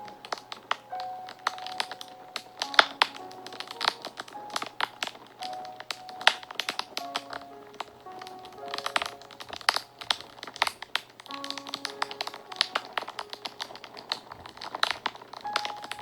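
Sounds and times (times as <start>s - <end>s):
fire crackling and popping: 0.0s - 16.0s
soft background music: 0.0s - 16.0s.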